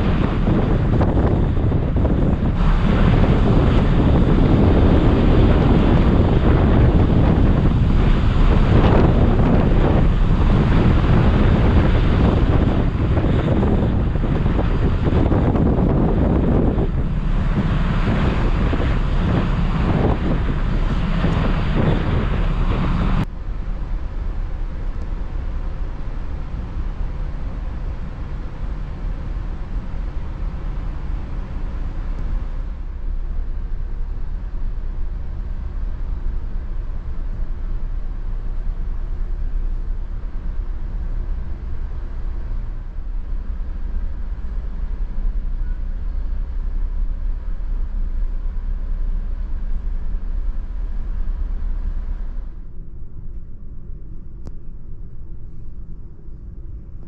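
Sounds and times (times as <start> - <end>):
ship engines droning: 0.0 - 57.0
wind buffeting microphone: 0.0 - 57.0.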